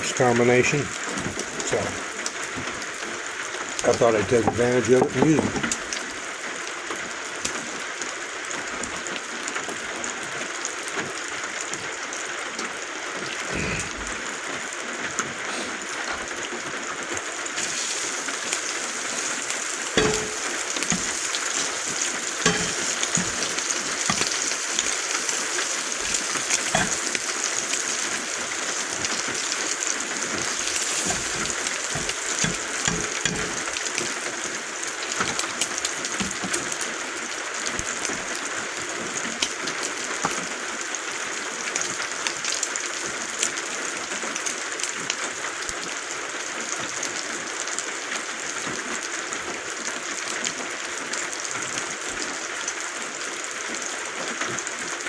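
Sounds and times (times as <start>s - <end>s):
rain drumming on roof: 0.0s - 55.0s.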